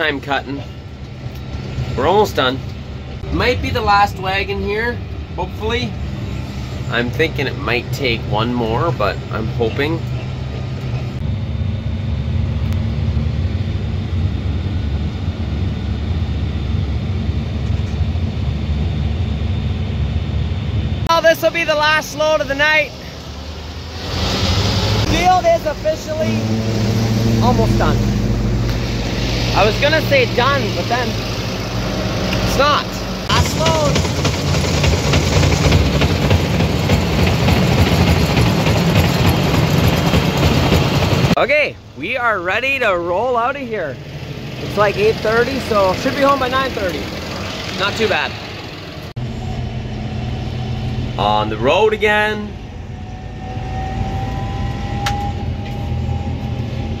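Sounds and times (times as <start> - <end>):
farm machinery low rumble: 0.0 - 57.0
tractor engine noise: 0.0 - 57.0.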